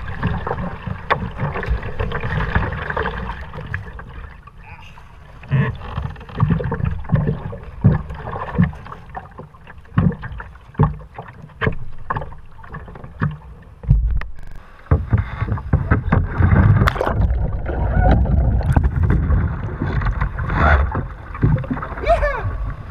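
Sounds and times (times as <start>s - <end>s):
sea water sloshing around kayak: 0.0s - 13.8s, 14.5s - 22.9s
paddle strokes splashing: 0.0s - 13.9s, 14.5s - 22.9s.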